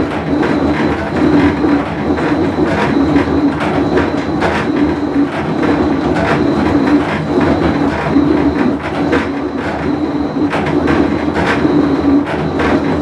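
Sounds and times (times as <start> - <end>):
washing machine grinding rumble: 0.0 - 13.0.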